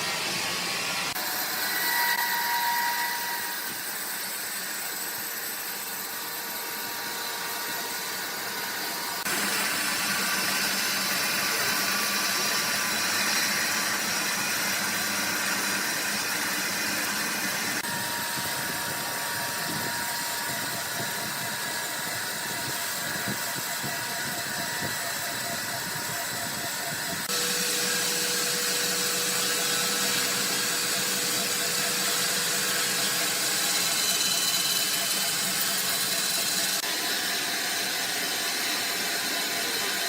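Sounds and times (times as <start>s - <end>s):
sawmill machinery running: 0.0s - 40.0s.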